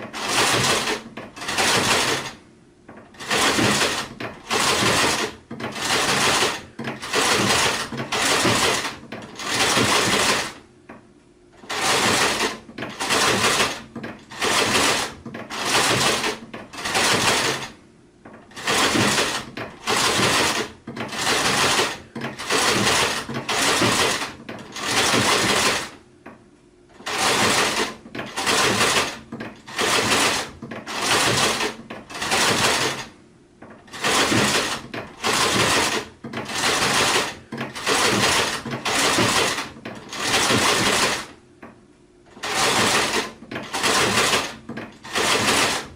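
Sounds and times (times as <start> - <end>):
sewing machine running in bursts: 0.0 - 2.4, 3.1 - 10.6, 11.6 - 17.8, 18.5 - 26.0, 26.9 - 33.2, 33.8 - 41.4, 42.3 - 45.9.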